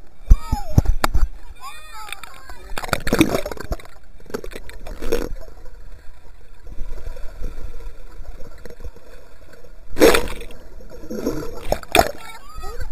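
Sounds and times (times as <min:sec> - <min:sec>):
water splashing: 0:00.2 - 0:12.9.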